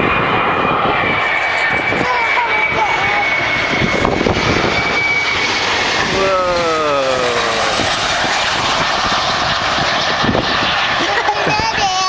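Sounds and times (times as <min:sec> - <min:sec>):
airliner engine noise passing overhead: 0:00.0 - 0:12.0.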